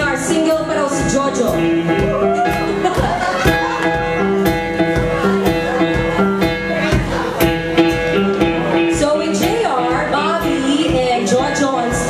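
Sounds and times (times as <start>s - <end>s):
guitar: 0.0s - 12.0s
steady drum beat: 0.0s - 12.0s.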